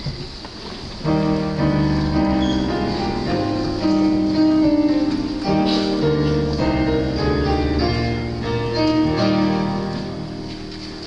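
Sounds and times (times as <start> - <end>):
instrumental hymn chords: 1.0 - 11.0.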